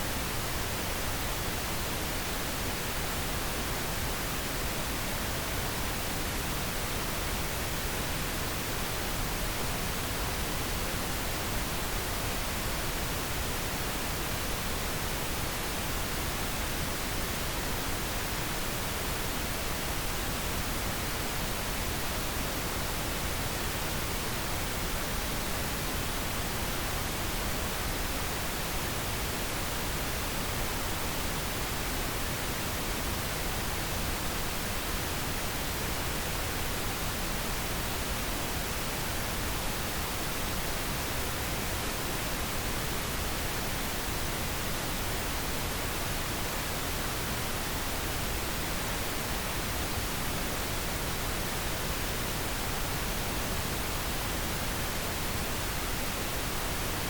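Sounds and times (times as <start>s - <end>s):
steady pink noise hiss: 0.0s - 57.0s.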